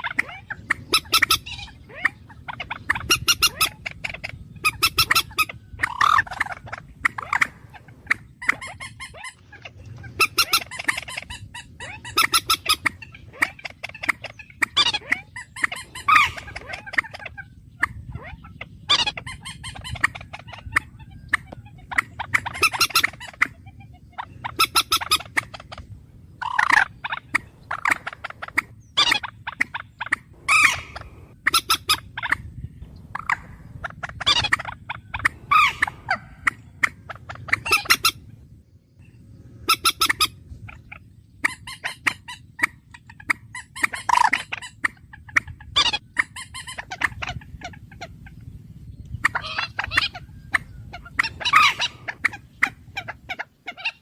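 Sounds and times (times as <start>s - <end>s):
bird calling: 0.0s - 54.0s
steady low hum: 0.0s - 54.0s.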